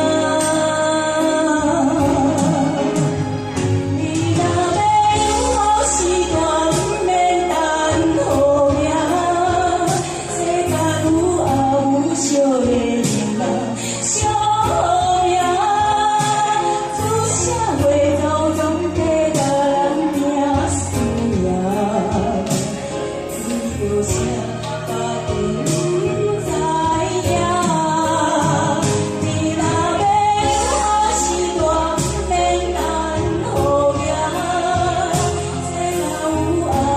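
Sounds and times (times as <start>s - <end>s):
woman singing: 0.0s - 36.9s.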